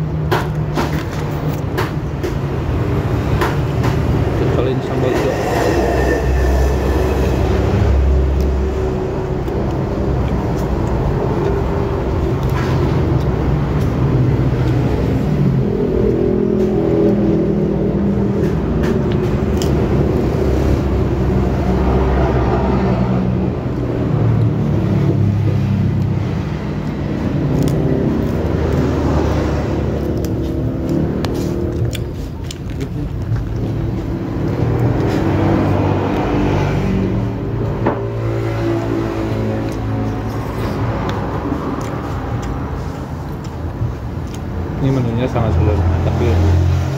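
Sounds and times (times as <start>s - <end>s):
road traffic engine rumble: 0.0s - 46.9s.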